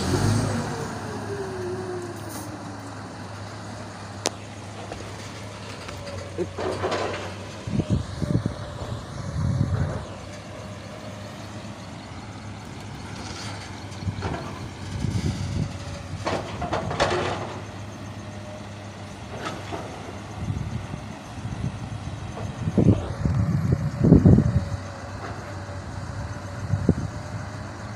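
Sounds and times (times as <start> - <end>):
truck engine running: 0.0 - 27.9.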